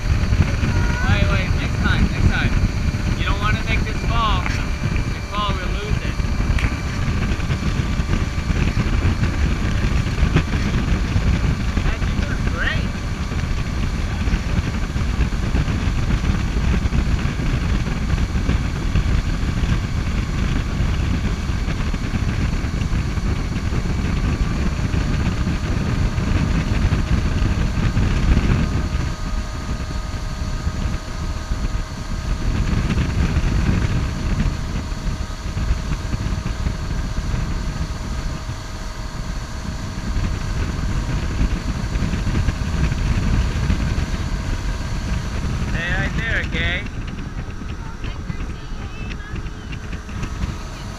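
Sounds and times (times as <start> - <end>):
boat engine running: 0.0 - 50.9
rush of wake and wind: 0.0 - 50.9
steady humming tones: 0.0 - 50.9.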